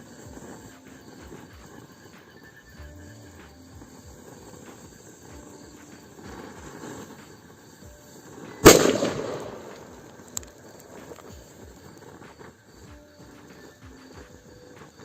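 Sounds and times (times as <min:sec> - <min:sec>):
firecracker bang: 0:00.0 - 0:15.0.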